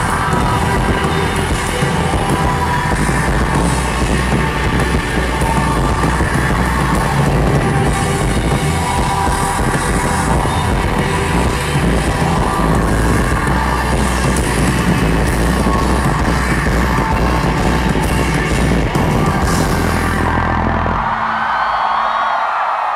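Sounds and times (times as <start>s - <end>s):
live rock band playing: 0.0s - 21.5s.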